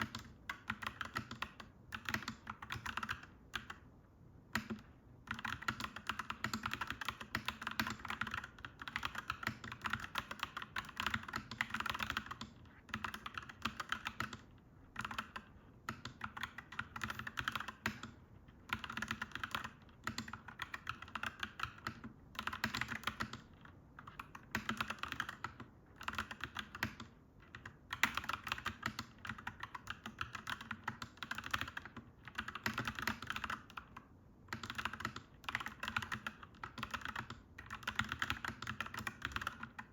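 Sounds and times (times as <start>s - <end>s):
mechanical keyboard typing: 0.0s - 3.8s, 4.5s - 39.9s.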